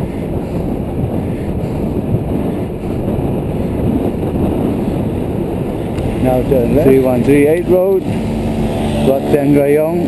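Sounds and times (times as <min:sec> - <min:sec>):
bike rolling road noise: 0:00.0 - 0:10.0
wind on microphone: 0:00.0 - 0:10.0.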